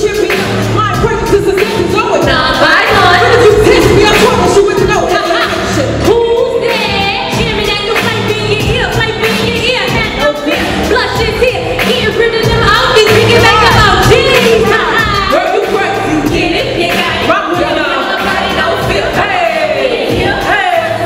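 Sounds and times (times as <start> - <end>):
pop backing track: 0.0 - 21.0
women singing into microphones: 0.0 - 21.0.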